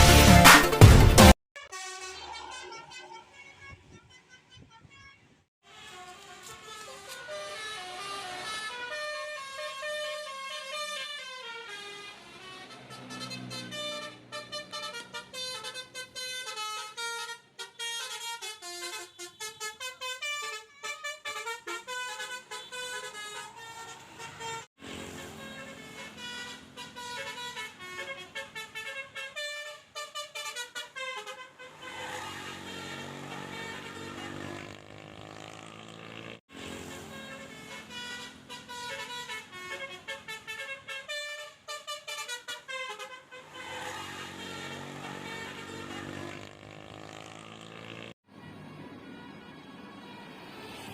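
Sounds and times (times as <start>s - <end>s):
bus musical air horn: 1.2s - 35.2s, 36.4s - 50.9s.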